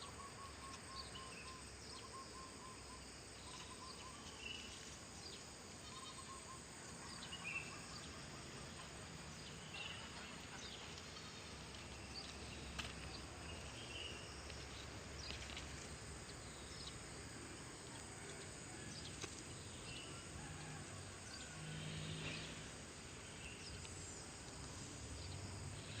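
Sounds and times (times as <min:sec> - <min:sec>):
insect hum: 0:00.0 - 0:26.0.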